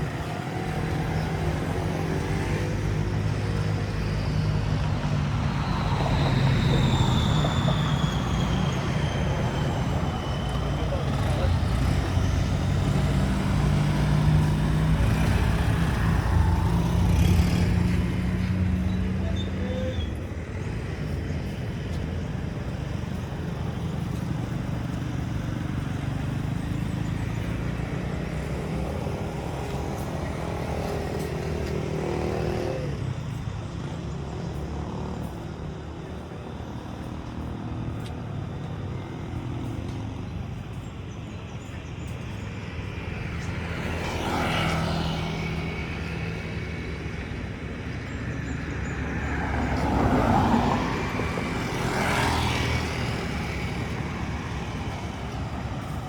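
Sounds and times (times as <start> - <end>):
motor vehicle engines running: 0.0 - 56.0
vehicles passing: 0.0 - 56.0.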